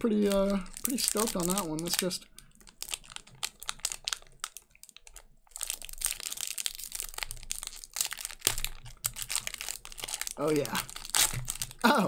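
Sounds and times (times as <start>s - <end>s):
foil wrapper crinkling: 0.1s - 12.0s.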